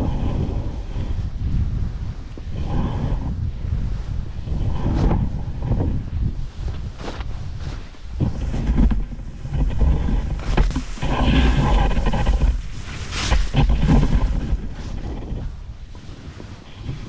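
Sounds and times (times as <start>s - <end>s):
skis scraping through snow: 0.0s - 17.0s
wind buffeting microphone: 0.0s - 17.0s.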